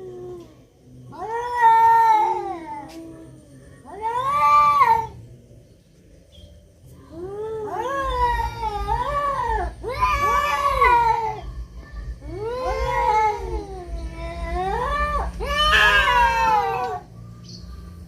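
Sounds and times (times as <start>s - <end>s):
cats yowling in a fight: 0.0s - 5.2s, 7.1s - 11.6s, 12.2s - 17.2s.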